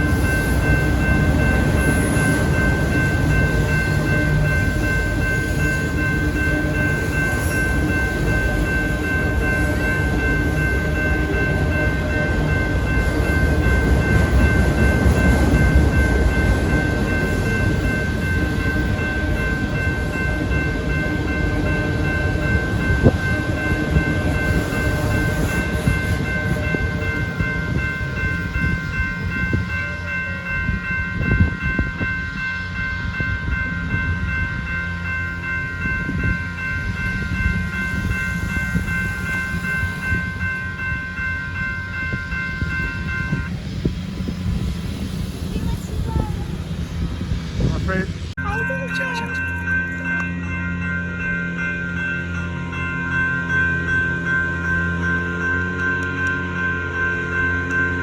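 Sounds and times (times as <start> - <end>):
crossing bell ringing: 0.0 - 58.0
train clanks: 0.0 - 58.0
train wheels rumbling on rail: 0.0 - 58.0.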